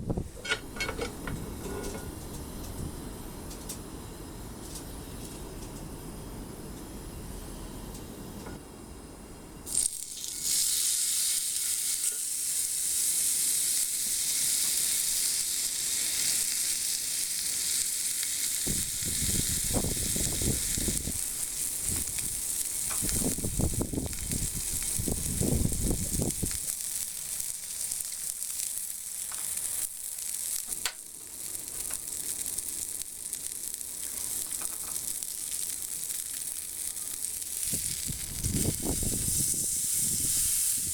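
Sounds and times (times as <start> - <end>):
steak sizzling on iron plate: 0.4 - 2.8, 9.7 - 40.9.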